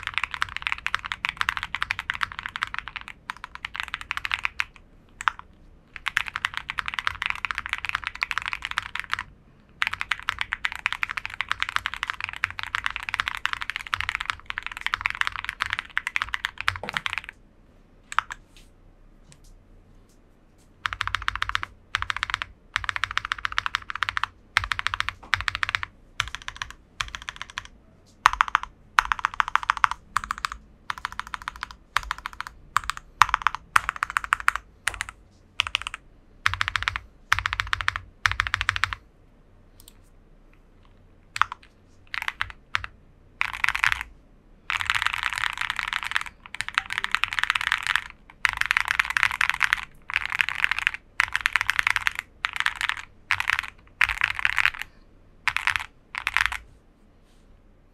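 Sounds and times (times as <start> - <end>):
mechanical keyboard typing: 0.0 - 17.4, 18.1 - 18.4, 20.8 - 39.0, 41.3 - 44.1, 44.7 - 54.9, 55.5 - 56.6.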